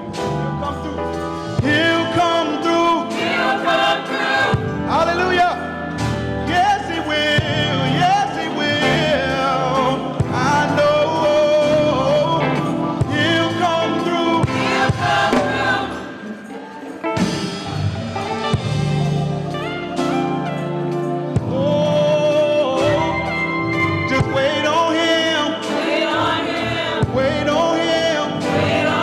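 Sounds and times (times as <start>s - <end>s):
gospel choir singing: 0.0s - 29.0s.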